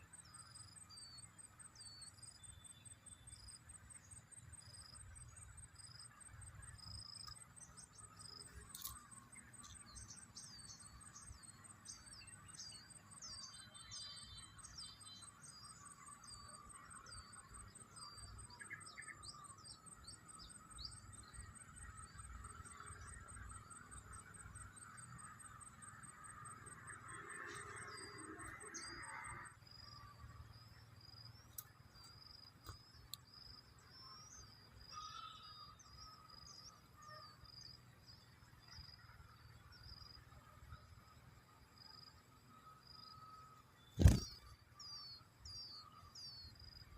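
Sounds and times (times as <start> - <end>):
faint bird chirps: 0.0 - 46.9
high insect trill: 0.0 - 46.9.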